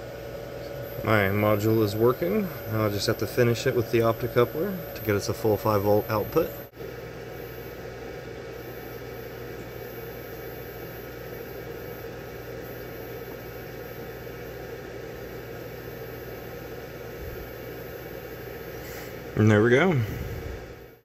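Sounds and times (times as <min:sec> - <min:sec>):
background hum and hiss: 0:00.0 - 0:21.0.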